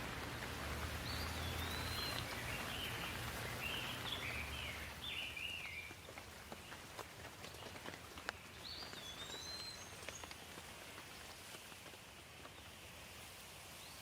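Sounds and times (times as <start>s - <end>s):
raindrops striking nearby: 0.0s - 13.8s
light rain: 0.0s - 14.0s.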